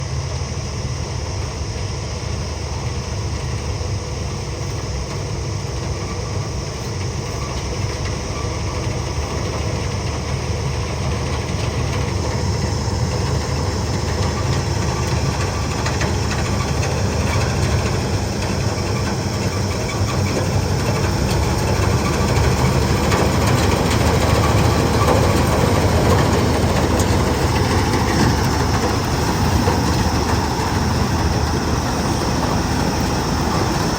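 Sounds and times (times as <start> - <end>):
harvester diesel engine droning: 0.0 - 33.9.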